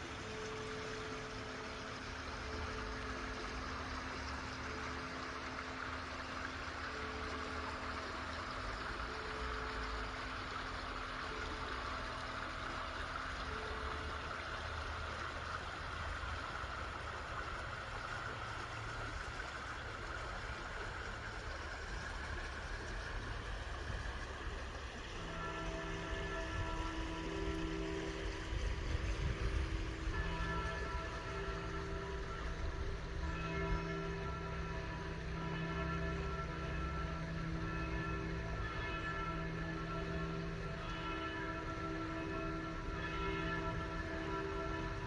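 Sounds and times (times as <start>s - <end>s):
faint church bells: 0.0s - 45.0s
water splashing: 0.0s - 45.0s.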